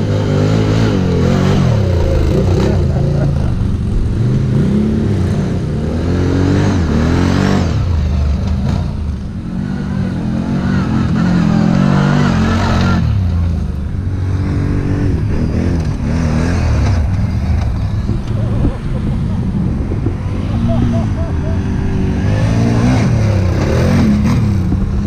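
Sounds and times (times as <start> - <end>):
quad bike engine revving: 0.0 - 25.0.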